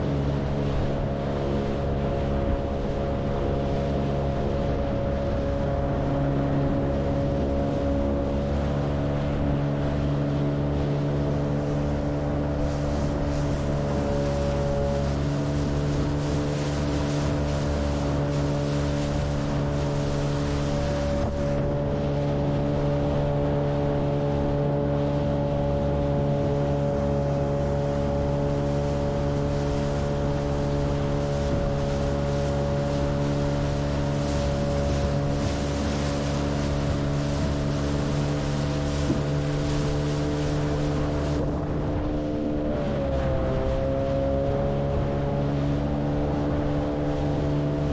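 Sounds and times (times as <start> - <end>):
boat motor running: 0.0 - 47.9
wind noise: 0.0 - 47.9.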